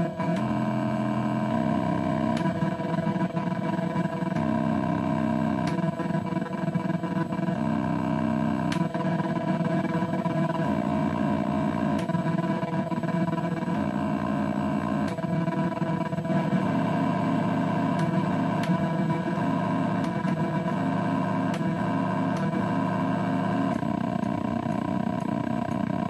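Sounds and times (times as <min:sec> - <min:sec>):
glitchy electronic drone: 0:00.0 - 0:26.0.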